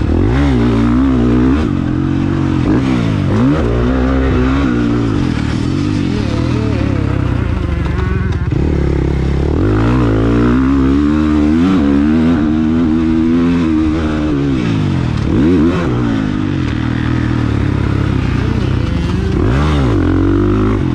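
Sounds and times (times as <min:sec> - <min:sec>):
motocross bike engine revving: 0:00.0 - 0:20.9.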